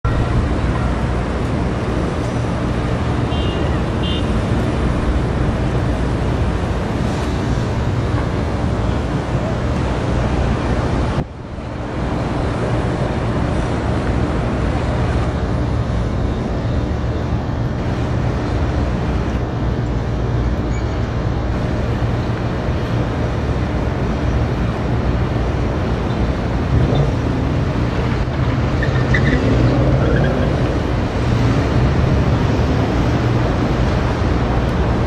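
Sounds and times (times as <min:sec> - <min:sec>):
city road traffic rumble: 0:00.0 - 0:35.0.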